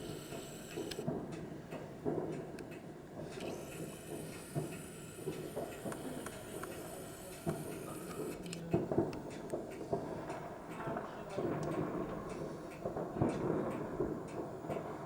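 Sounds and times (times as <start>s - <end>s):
distant fireworks popping and banging: 0.0s - 15.0s
steady background noise: 0.0s - 15.0s.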